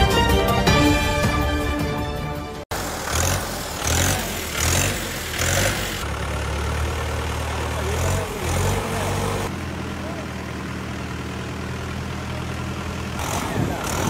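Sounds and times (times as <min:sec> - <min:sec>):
tractor diesel engine running: 0:02.6 - 0:14.0.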